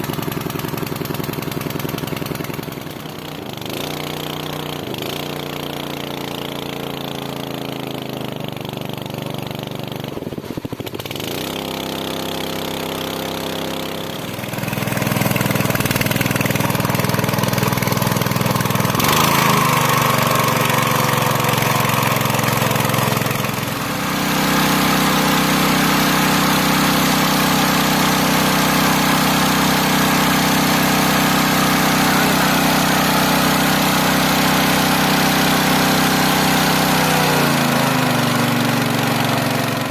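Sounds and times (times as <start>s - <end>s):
water pump engine running: 0.0s - 39.9s.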